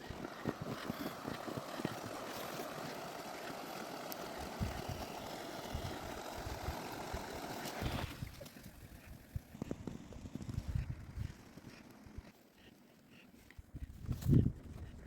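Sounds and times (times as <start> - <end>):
vehicle engine humming: 0.0 - 12.2.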